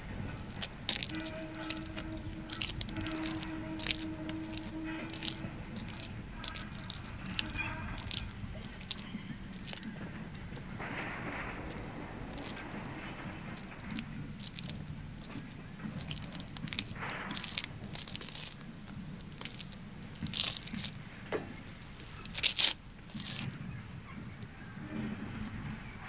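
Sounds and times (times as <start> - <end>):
footsteps crunching on gritty pavement: 0.0 - 26.0.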